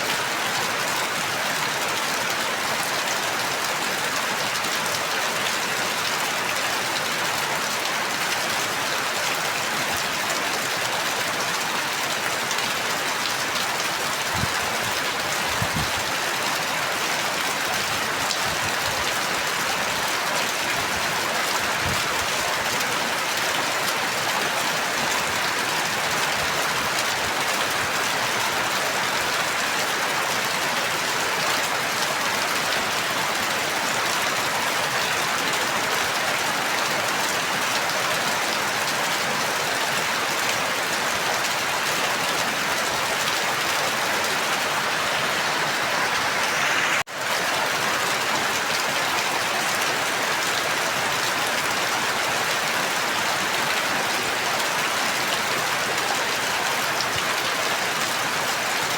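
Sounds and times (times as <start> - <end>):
steady rain patter: 0.0 - 58.9.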